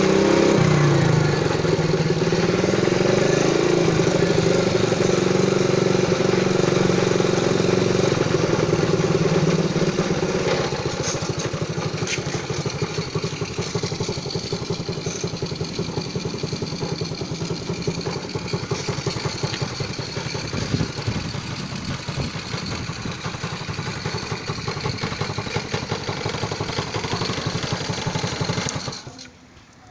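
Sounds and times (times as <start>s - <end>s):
minibike engine running: 0.0s - 29.9s.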